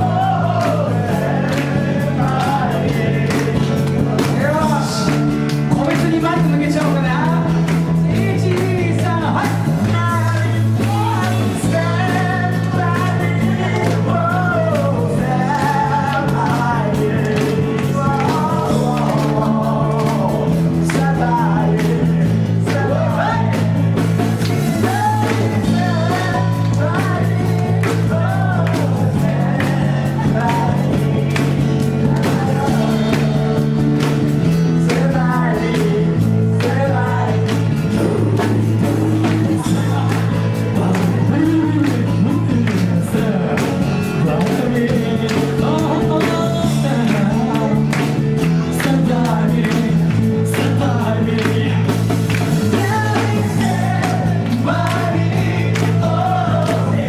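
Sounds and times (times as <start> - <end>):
low repeating bass line: 0.0 - 57.0
voices singing: 0.0 - 57.0.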